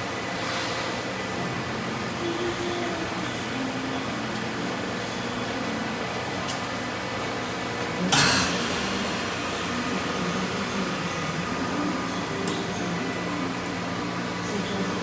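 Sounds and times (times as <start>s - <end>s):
packaging machine humming: 0.0s - 15.0s.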